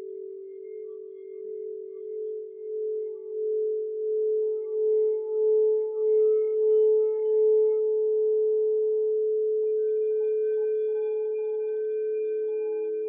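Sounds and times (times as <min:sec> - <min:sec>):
lower-pitched singing bowl ringing: 0:00.0 - 0:13.0.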